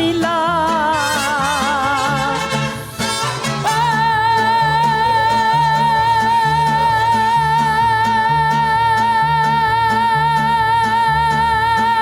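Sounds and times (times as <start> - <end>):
mariachi band playing: 0.0 - 12.0.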